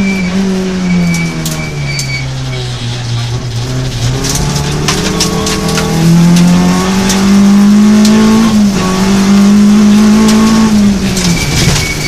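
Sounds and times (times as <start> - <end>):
rally car engine at high revs: 0.0 - 12.0
gravel striking car: 0.2 - 12.0.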